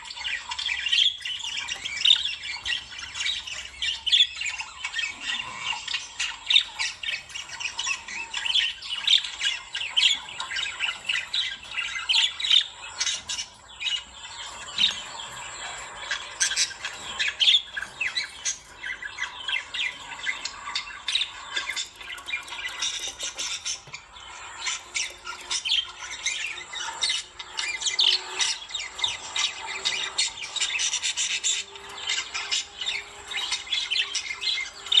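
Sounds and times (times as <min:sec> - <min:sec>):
lovebirds squawking and chattering: 0:00.0 - 0:35.0.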